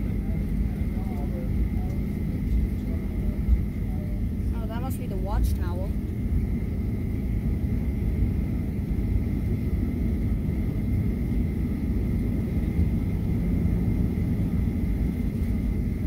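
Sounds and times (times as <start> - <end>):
faint high whine: 0.0 - 16.0
low engine rumble: 0.0 - 16.0.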